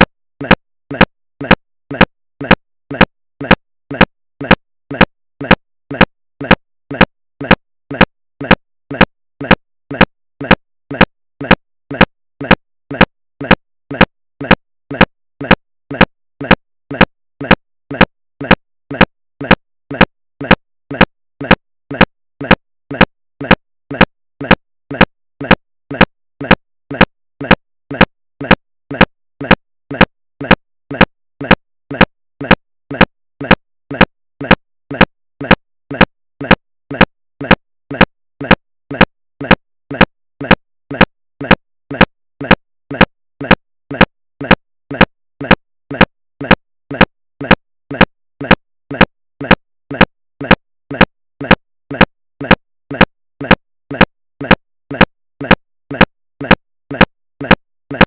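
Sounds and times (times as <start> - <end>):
steady ticking clicks: 0.0 - 58.0.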